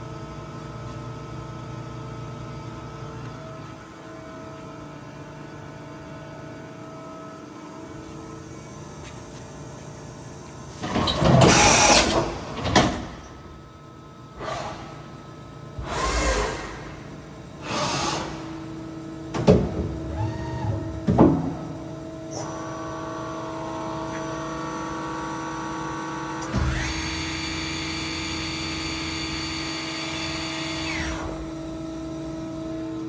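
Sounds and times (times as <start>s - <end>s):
whirring hum with tones: 0.0s - 33.0s.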